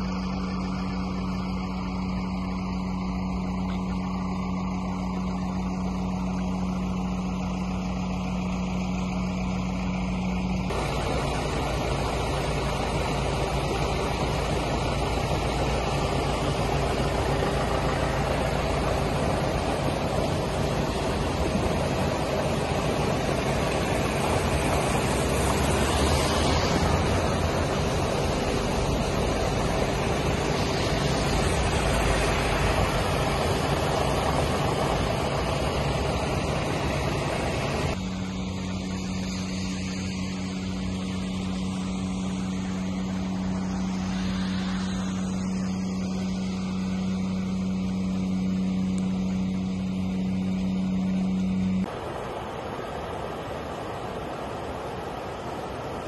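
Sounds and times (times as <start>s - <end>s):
floodwater rushing: 0.0s - 56.0s
low machine hum: 0.0s - 56.0s.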